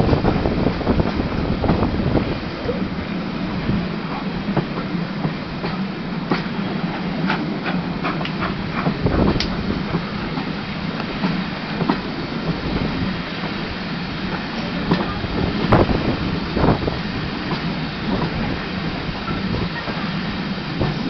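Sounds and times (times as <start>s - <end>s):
train rolling rumble: 0.0s - 21.0s
wheels clicking over track: 0.0s - 21.0s.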